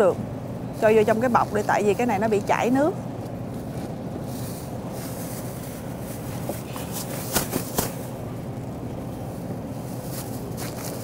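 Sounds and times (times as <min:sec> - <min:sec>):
store background hum: 0:00.0 - 0:11.0.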